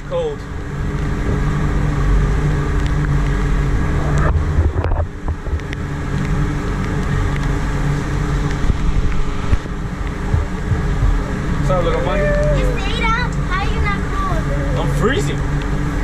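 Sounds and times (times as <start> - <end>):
outboard engine running: 0.0 - 16.0
wind on microphone: 1.1 - 7.2, 7.8 - 16.0.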